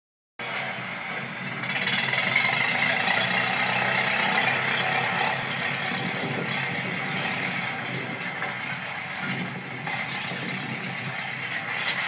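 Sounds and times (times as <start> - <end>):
tractor engine running: 0.4 - 12.0.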